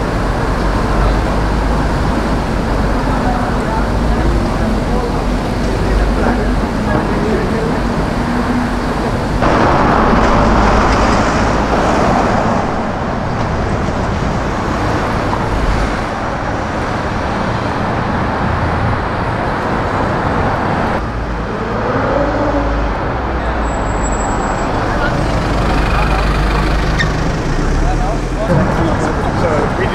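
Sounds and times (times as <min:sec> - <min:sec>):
vehicles passing on road: 0:00.0 - 0:29.9.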